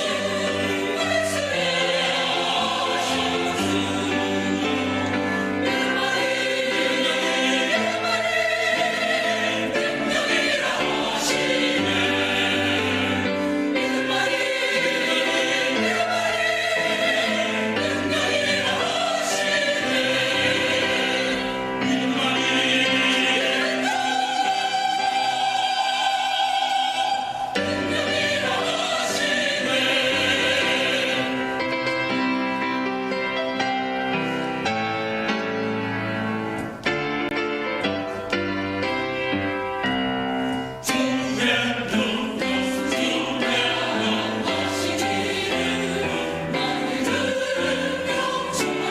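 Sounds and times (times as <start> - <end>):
choir singing a hymn: 0.0 - 39.6, 40.5 - 48.9.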